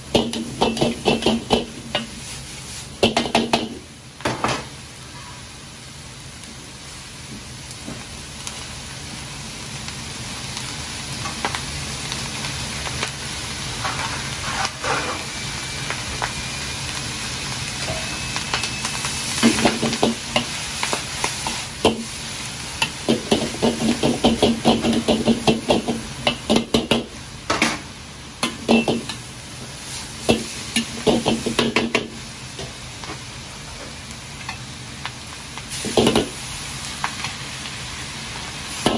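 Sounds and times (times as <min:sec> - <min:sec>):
stir-fry sizzling in a wok: 0:00.0 - 0:38.9.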